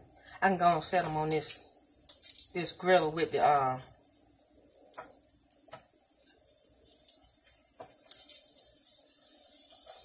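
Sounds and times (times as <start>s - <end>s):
faint sizzling on a grill: 0.0s - 10.0s.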